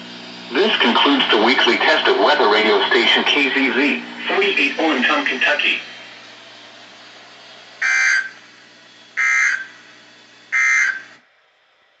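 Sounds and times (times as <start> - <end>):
broadcast hiss and hum: 0.0 - 11.2
harsh buzzing data tones: 0.4 - 11.2.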